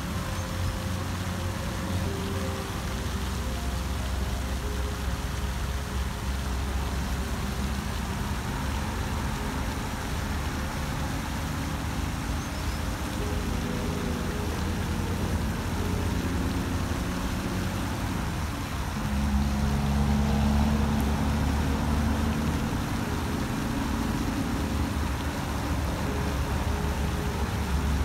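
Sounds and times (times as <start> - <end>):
fountain spraying onto water: 0.0 - 28.0.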